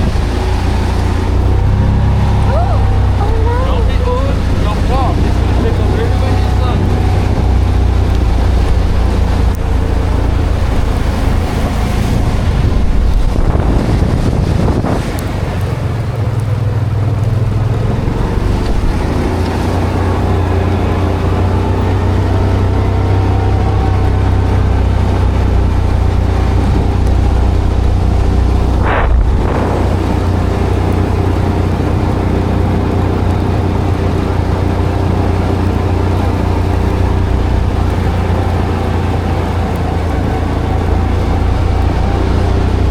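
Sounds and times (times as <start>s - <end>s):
engine running with deep hum: 0.0s - 42.9s.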